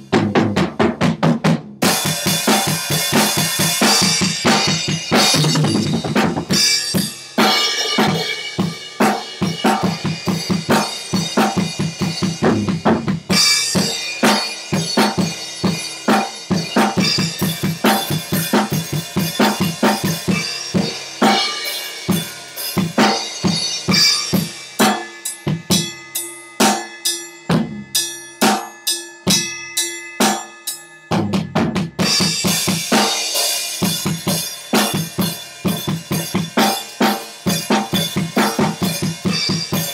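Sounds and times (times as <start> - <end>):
drum kit hits: 0.0 - 25.9, 31.1 - 39.9
cymbals crashing: 1.8 - 12.7, 13.3 - 30.8, 32.0 - 39.9.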